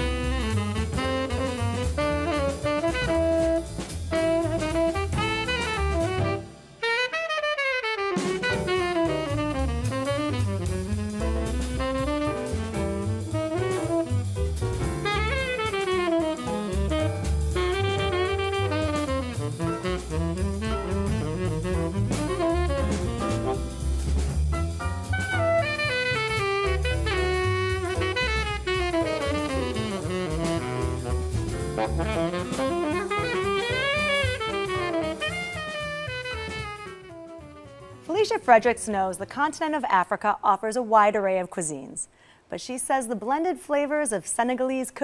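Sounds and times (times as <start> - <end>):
jazz music with drum kit: 0.0 - 40.4.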